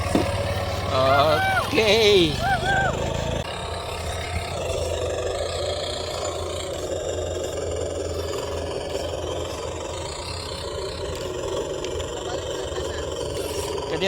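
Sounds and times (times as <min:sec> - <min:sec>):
simulated diesel engine from speaker: 0:00.0 - 0:14.0.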